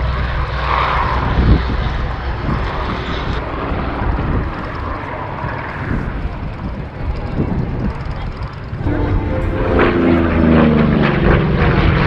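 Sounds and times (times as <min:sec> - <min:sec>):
propeller plane engine drone: 0:00.0 - 0:12.0
wind rumbling on microphone: 0:00.0 - 0:12.0.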